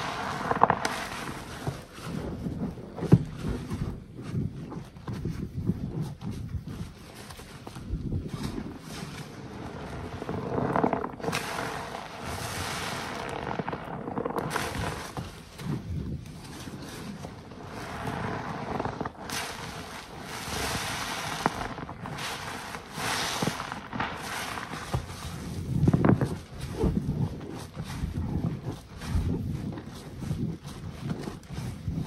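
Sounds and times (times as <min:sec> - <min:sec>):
wet sponge squelching: 0:00.0 - 0:32.0.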